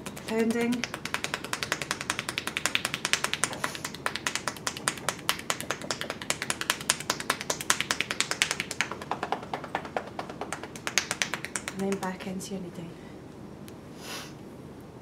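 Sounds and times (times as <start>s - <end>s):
hands rapidly patting the body: 0.0s - 12.3s.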